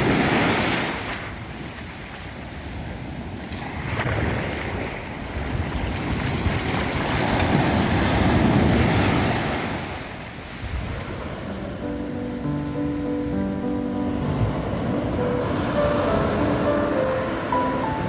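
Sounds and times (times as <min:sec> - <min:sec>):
sea waves breaking on beach: 0:00.0 - 0:18.0.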